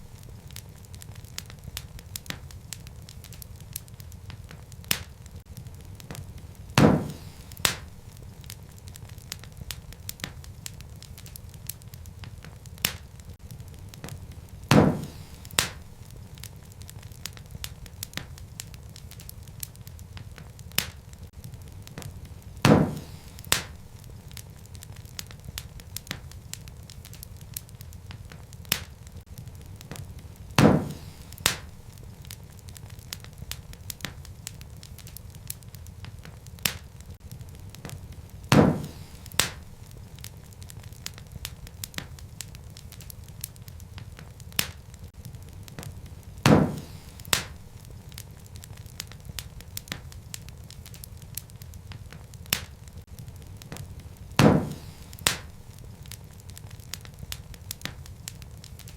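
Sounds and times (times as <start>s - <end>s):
burning wood popping: 0.0s - 58.9s
wood fire crackling: 0.0s - 58.9s.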